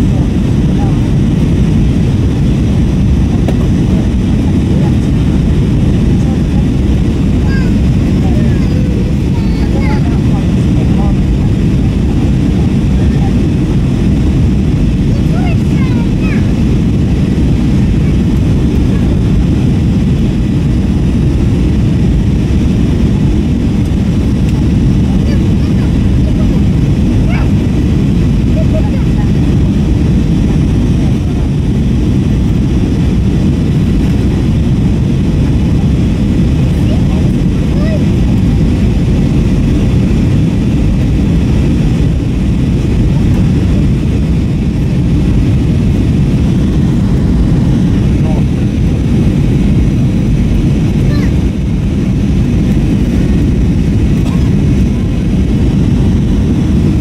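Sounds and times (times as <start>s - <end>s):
airplane cabin jet engine drone: 0.0s - 57.0s
rushing airflow: 0.0s - 57.0s.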